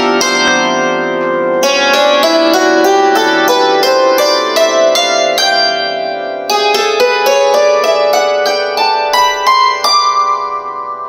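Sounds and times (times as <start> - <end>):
hammered dulcimer melody: 0.0 - 11.0.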